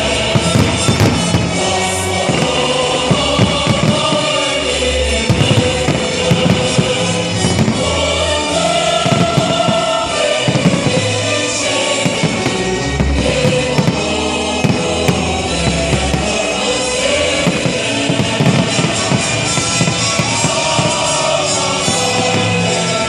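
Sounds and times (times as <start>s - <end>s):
choral music: 0.0s - 23.0s
firework bangs: 0.0s - 23.0s.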